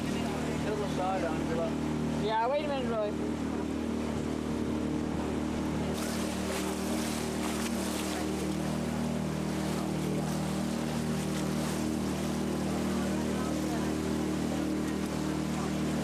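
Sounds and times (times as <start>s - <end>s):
boat engine humming: 0.0s - 16.0s
rushing water: 0.0s - 16.0s
wind: 0.0s - 16.0s.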